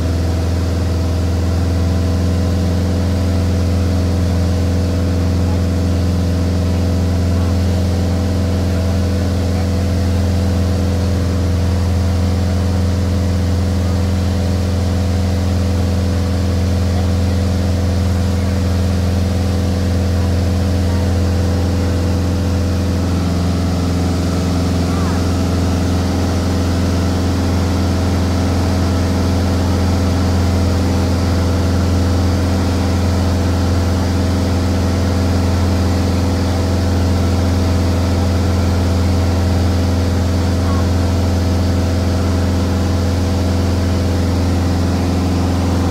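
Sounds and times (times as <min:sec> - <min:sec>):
aircraft engine and propeller drone: 0:00.0 - 0:45.9.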